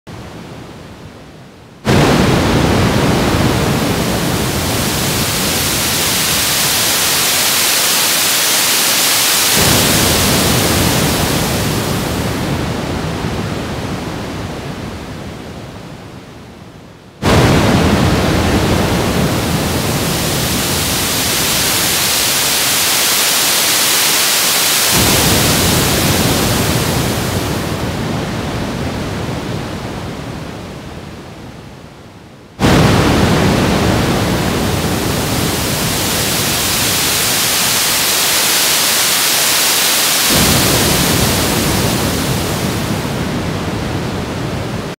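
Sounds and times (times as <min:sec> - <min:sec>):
synthesized ocean waves: 0:00.1 - 0:44.9.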